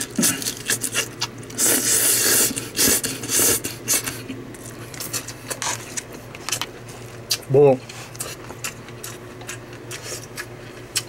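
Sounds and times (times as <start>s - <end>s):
chewing and slurping: 0.0s - 11.0s.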